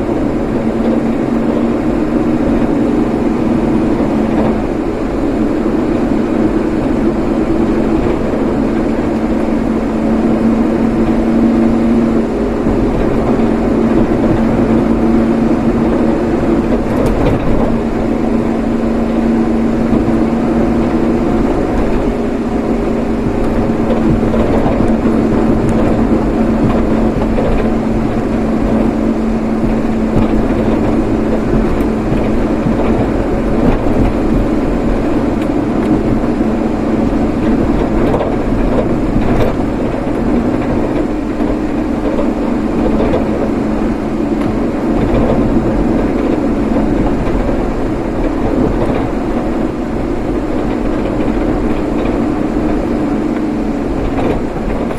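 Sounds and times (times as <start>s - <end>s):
road noise: 0.0s - 54.9s
vehicle engine hum: 0.0s - 54.9s.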